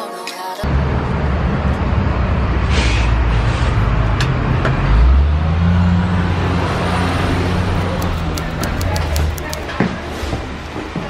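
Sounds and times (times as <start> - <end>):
street traffic rumble: 0.6 - 11.0
deep engine hum: 0.7 - 9.7.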